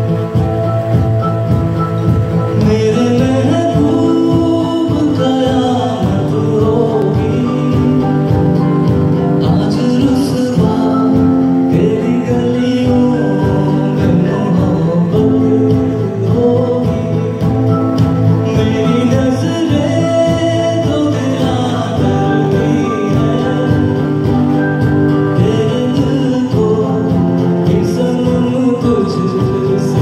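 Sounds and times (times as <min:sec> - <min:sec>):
keyboard: 0:00.0 - 0:30.0
strummed acoustic guitars: 0:00.0 - 0:30.0
man singing long notes: 0:02.4 - 0:30.0.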